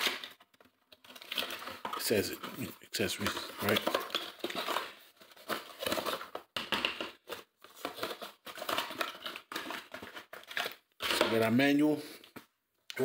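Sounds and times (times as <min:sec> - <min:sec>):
packaging rustling and crinkling: 0:00.0 - 0:11.6.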